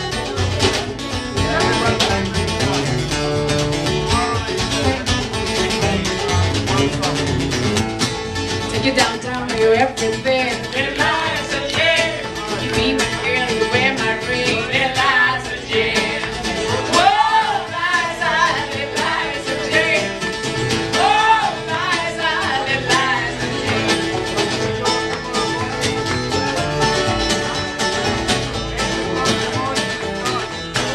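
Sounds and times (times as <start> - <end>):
bluegrass band playing: 0.0 - 30.9.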